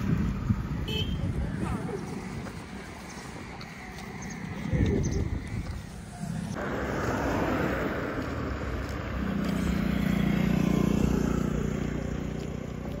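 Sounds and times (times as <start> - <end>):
road traffic rushing: 0.0 - 13.0
vehicle engine passing: 1.7 - 13.0.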